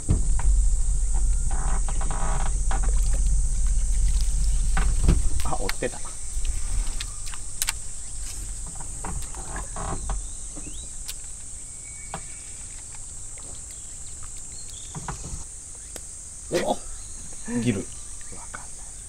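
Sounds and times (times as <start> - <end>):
insect chorus: 0.0 - 19.0.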